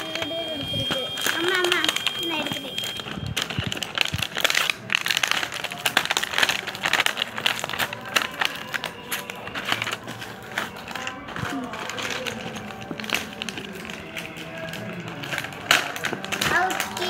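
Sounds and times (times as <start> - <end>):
plastic blister pack crinkling: 0.0 - 17.0.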